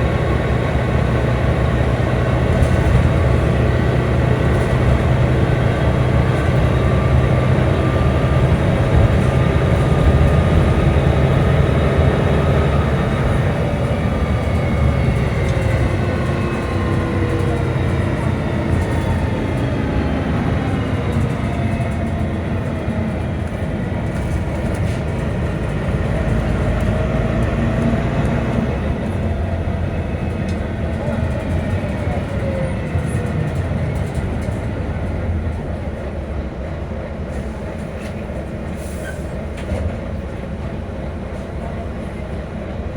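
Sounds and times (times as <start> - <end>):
bus engine rumble: 0.0 - 42.9.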